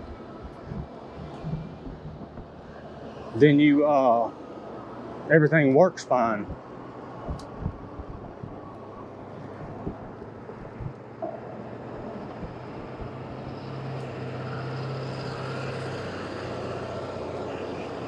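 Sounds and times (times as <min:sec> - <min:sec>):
motor vehicle passing: 0:00.0 - 0:18.0.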